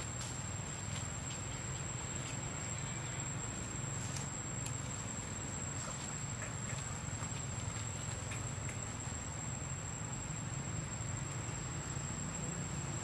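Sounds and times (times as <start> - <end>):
high-pitched insect trill: 0.0 - 13.0
low background hum: 0.0 - 13.0.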